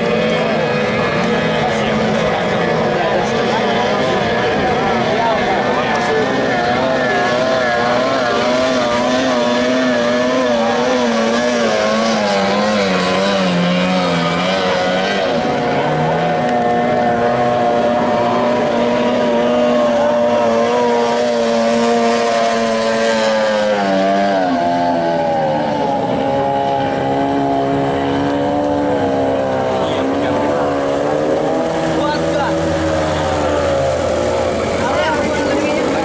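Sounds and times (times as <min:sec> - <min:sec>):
outboard motors at high revs: 0:00.0 - 0:36.0.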